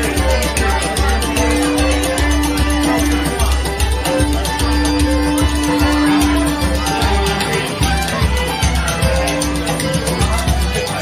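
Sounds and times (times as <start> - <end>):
box drum played with brushes: 0.0 - 11.0.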